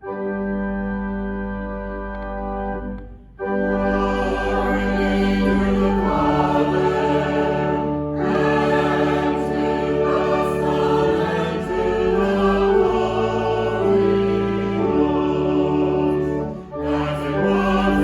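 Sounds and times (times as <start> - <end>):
choir singing sacred piece: 3.0 - 18.0.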